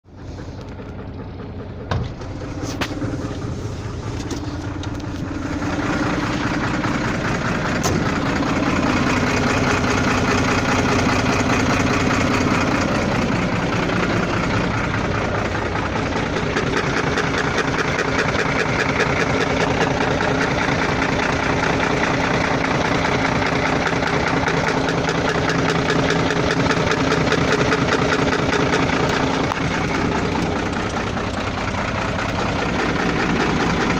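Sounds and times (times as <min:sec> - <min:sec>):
diesel truck engine running: 0:00.0 - 0:33.9
engine knock: 0:00.0 - 0:33.9.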